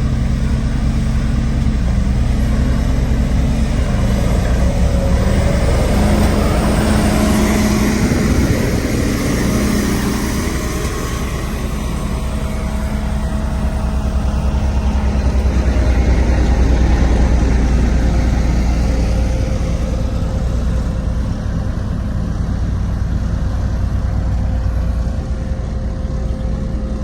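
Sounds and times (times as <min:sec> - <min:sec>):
road roller diesel engine running: 0:00.0 - 0:27.0.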